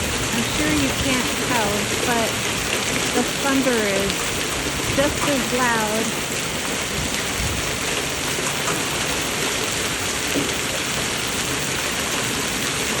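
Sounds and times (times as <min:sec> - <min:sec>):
hail and heavy rain falling: 0:00.0 - 0:13.0.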